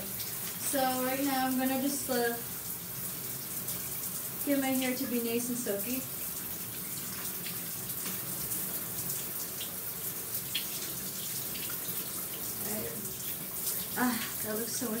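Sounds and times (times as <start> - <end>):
shower spray running: 0.0 - 15.0.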